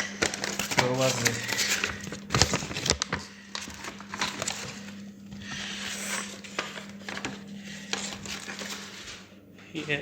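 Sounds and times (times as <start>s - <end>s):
paper pages rustling: 0.0s - 9.4s.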